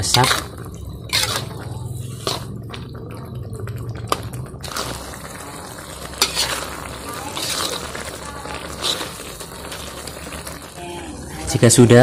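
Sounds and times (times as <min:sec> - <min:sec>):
sauce squelching in wok: 0:00.0 - 0:11.4.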